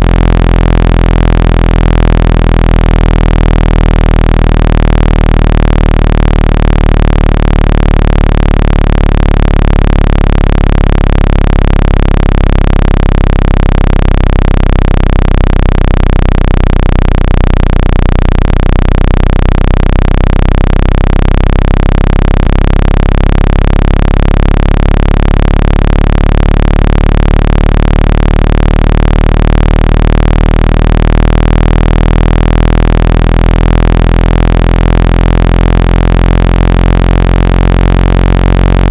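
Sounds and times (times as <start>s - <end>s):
low buzzy electronic tone: 0.0s - 38.9s.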